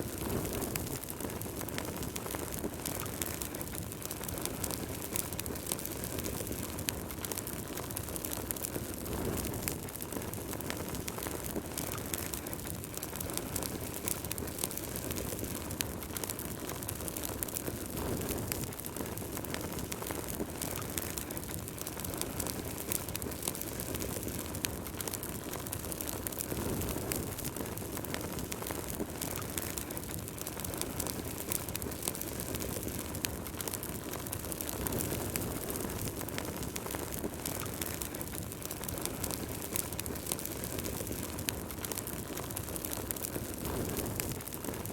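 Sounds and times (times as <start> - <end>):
low rush of flames: 0.0 - 44.9
wood fire crackling and popping: 0.0 - 44.9.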